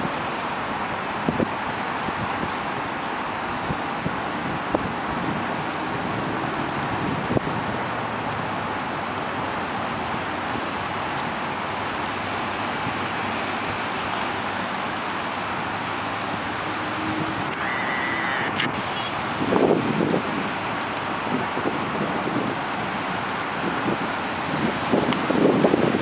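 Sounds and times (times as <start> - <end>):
road traffic rushing: 0.0 - 26.0
wind on microphone: 0.0 - 26.0.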